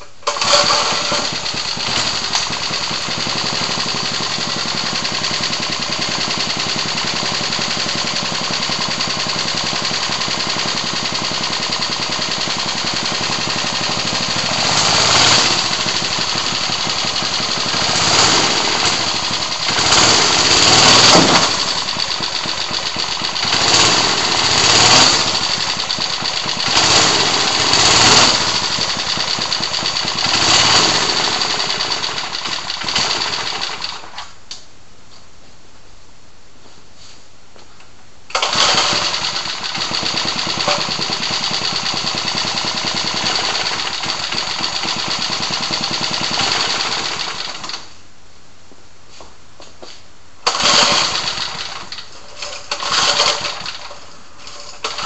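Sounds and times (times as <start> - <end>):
small engine idling and revving: 0.3 - 34.2, 38.3 - 47.9, 50.5 - 55.0.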